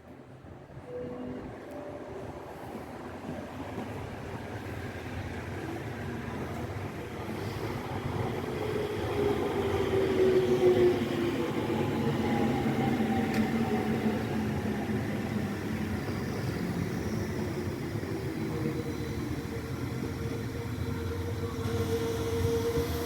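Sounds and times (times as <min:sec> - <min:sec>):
rumble of train wheels: 0:00.0 - 0:23.0
electric train passing: 0:00.8 - 0:23.0.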